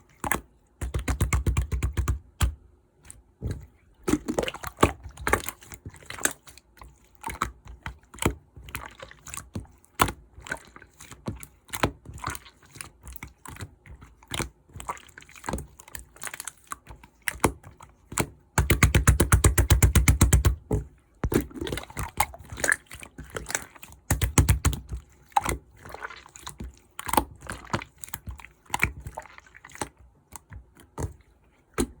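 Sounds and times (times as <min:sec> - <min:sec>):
slime squishing by hand: 0:00.0 - 0:32.0.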